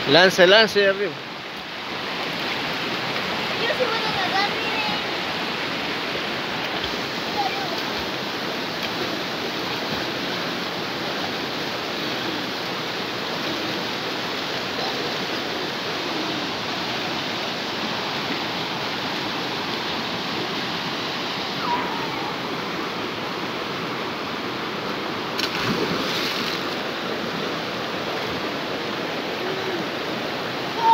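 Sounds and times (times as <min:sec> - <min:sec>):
river water rushing over rocks: 0:00.0 - 0:30.9.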